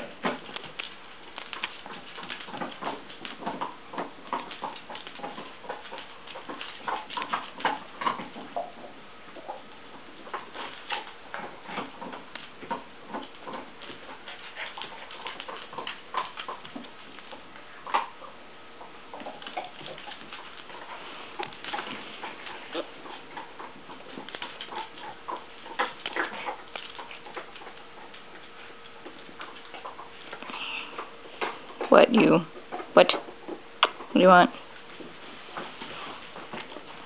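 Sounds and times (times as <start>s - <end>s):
puppy claws clicking on tile: 0.2s - 9.6s, 10.2s - 18.1s, 19.1s - 31.9s.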